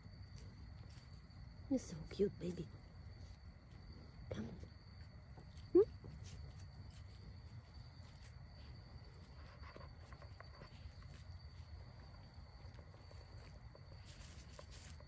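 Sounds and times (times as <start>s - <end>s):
crickets chirring: 0.0s - 15.0s
faint clicks and rustles: 2.7s - 15.0s.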